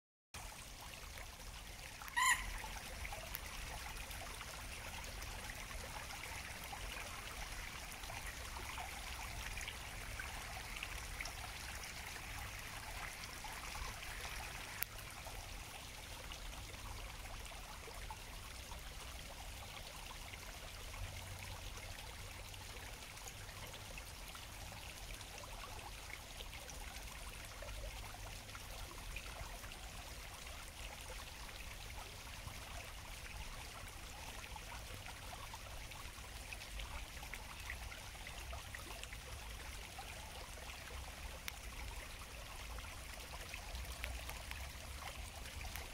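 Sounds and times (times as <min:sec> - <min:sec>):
water trickling over stones: 0:00.4 - 0:45.9.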